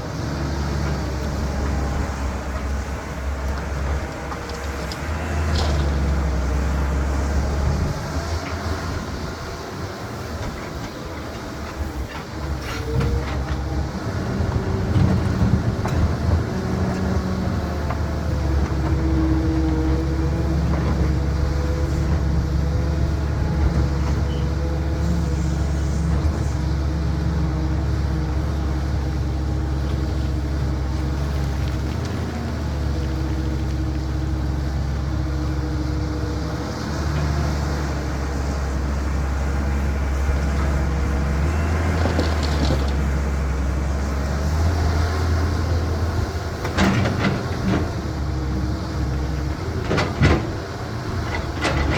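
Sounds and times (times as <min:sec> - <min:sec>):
excavator diesel engine under load: 0:00.0 - 0:51.9.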